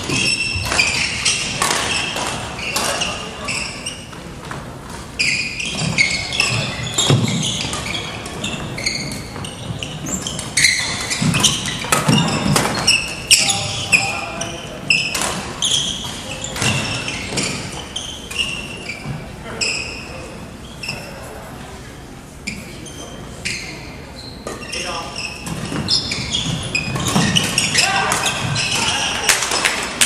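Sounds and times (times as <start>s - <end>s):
shoes squeaking on wooden floor: 0.0s - 21.4s, 22.5s - 29.8s.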